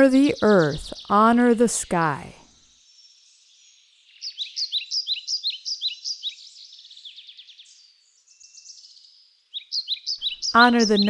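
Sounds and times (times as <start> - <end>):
songbirds chirping and trilling: 0.0 - 11.0.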